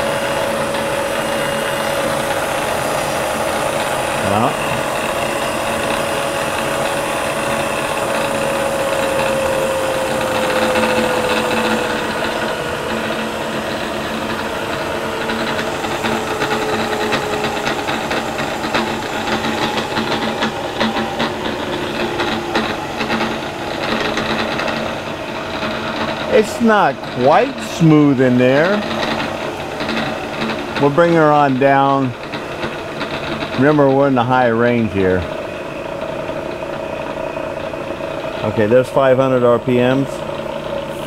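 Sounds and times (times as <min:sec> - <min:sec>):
milling machine whine falling in pitch: 0:00.0 - 0:41.0
steady hum: 0:00.0 - 0:41.0
uneven rattle: 0:00.0 - 0:41.0.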